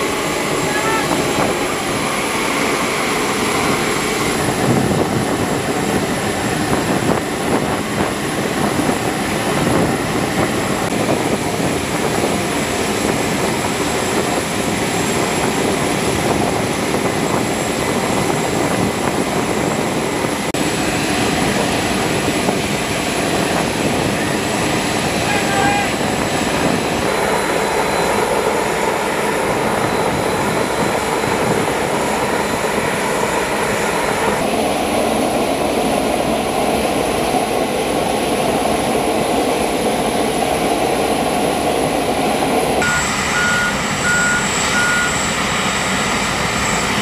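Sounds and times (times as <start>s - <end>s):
aircraft turbine engine running: 0.0s - 47.0s.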